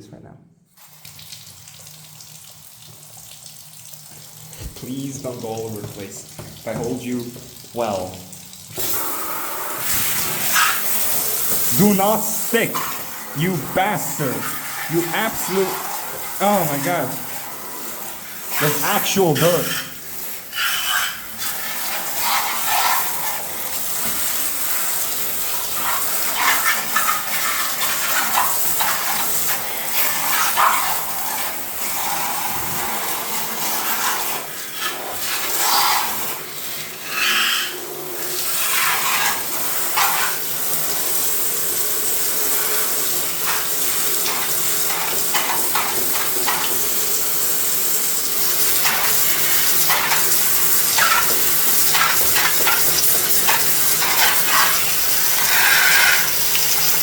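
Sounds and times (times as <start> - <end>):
water splashing in a bathtub: 0.8 - 57.0.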